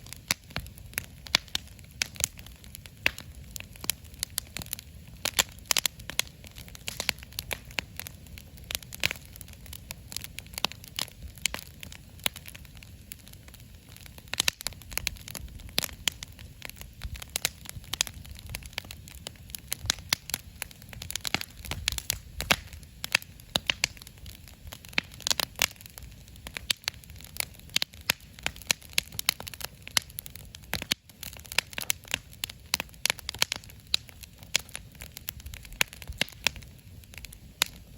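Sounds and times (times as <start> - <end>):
low fire rumble: 0.0 - 37.9
wood fire crackling and popping: 0.0 - 37.9.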